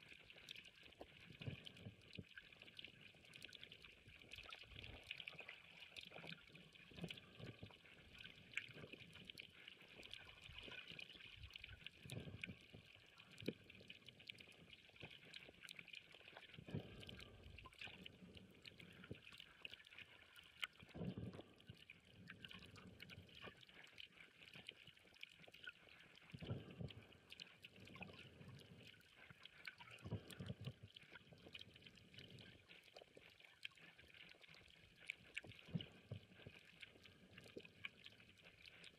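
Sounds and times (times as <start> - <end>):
muffled water surges: 0.0 - 38.9.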